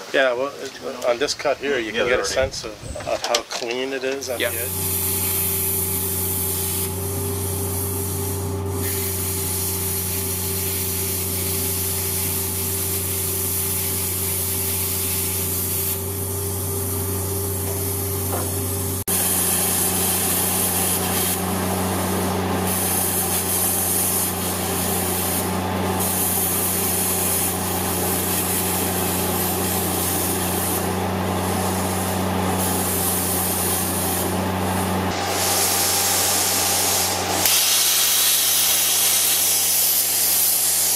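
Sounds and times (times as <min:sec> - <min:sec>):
plasma cutter hissing: 0:04.3 - 0:40.9.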